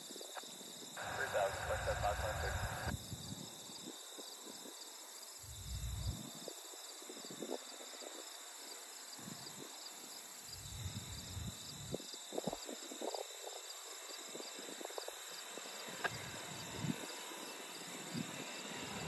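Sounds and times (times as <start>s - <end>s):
insects chirping: 0.1s - 19.0s.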